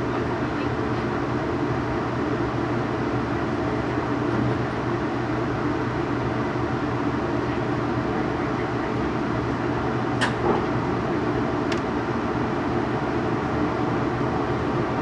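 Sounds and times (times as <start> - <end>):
train running rumble and hum: 0.0 - 15.0.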